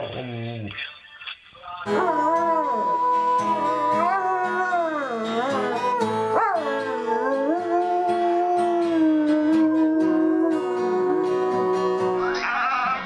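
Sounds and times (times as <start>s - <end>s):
dog howling: 1.9s - 12.5s
music with held notes: 1.9s - 13.0s.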